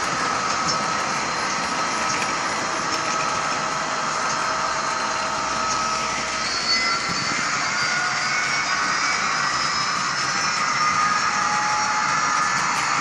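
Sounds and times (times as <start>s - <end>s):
model train rolling on track: 0.0s - 13.0s
thin steady whine: 0.0s - 13.0s.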